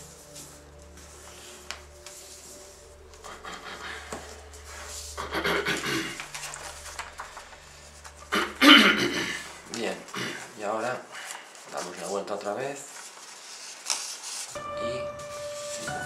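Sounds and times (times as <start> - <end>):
paper rustling: 0.0 - 14.6, 15.2 - 16.0.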